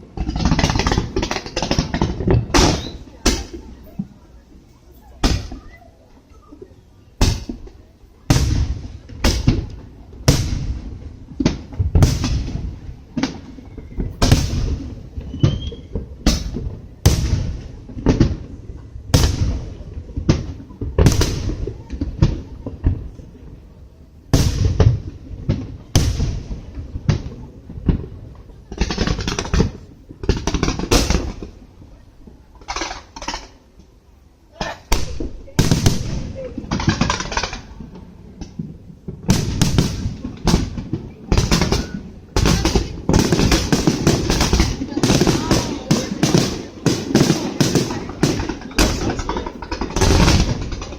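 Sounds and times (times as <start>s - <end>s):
fireworks bursting: 0.0s - 50.9s.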